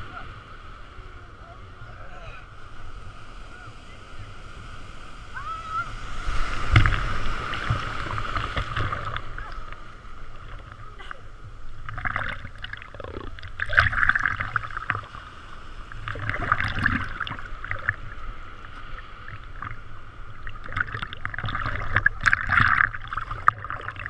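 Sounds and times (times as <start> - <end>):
sea water sloshing and splashing: 4.4 - 24.0.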